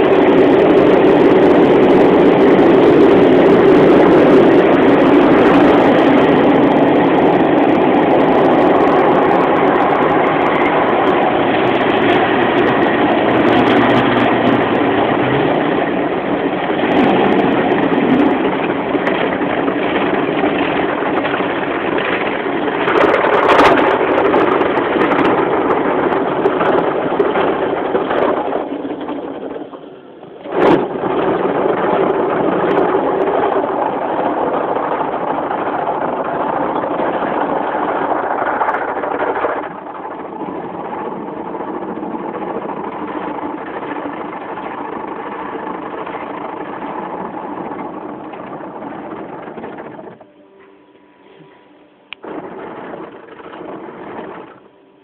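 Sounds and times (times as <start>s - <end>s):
car wash machinery rushing: 0.0s - 50.4s, 51.2s - 55.0s.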